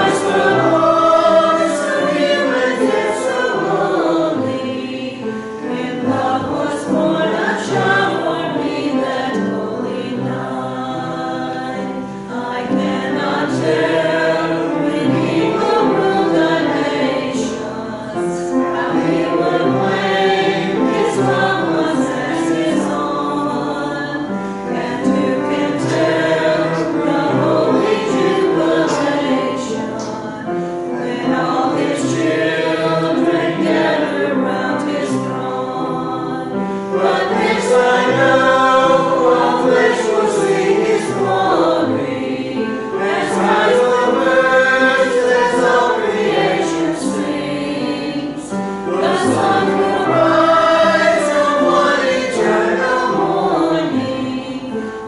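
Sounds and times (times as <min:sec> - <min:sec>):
mixed choir singing: 0:00.0 - 0:55.0.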